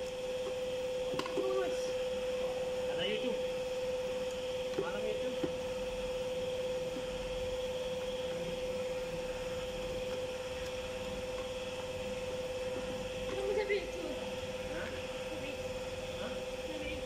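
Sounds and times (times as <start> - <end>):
steady mid-high hum: 0.0 - 17.0.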